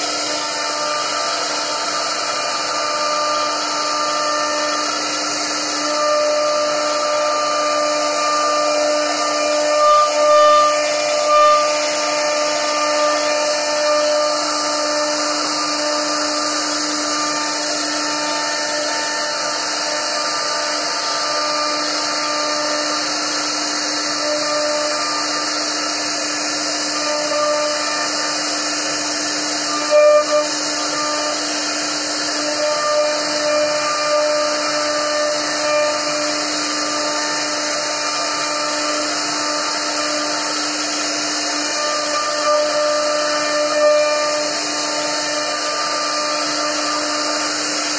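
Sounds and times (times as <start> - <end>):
router bit cutting wood: 0.0 - 47.9
wood router spindle whine: 0.0 - 47.9.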